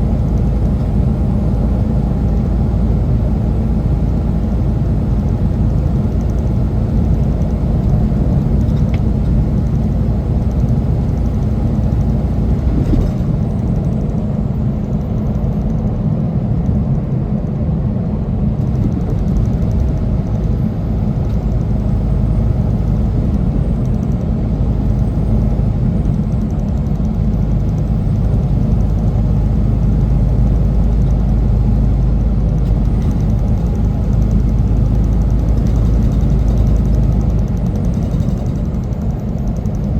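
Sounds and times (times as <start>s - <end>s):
road noise: 0.0s - 39.9s
truck diesel engine rumble: 0.0s - 39.9s.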